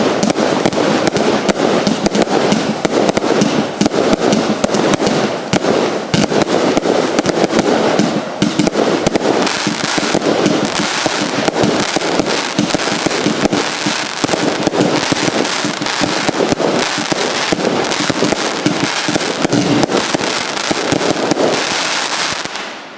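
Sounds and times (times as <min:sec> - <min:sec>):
firework launches and bursts: 0:00.0 - 0:22.9.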